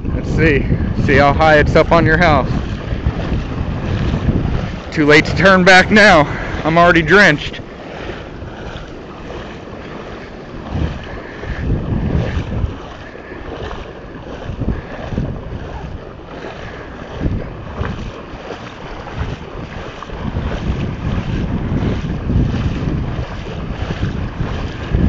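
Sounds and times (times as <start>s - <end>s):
water sloshing around wading legs: 0.0s - 25.0s
wind buffeting the microphone: 0.0s - 25.0s.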